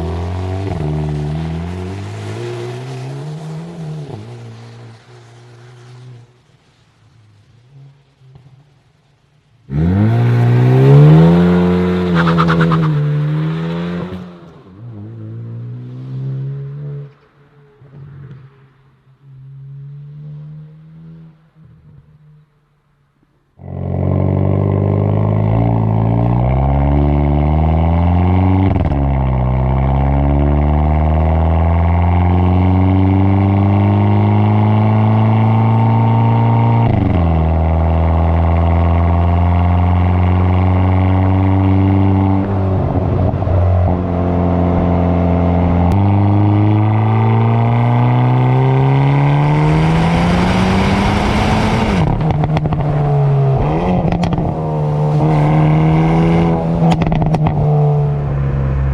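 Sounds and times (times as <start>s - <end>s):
car engine accelerating: 0.0s - 22.7s, 23.5s - 58.9s.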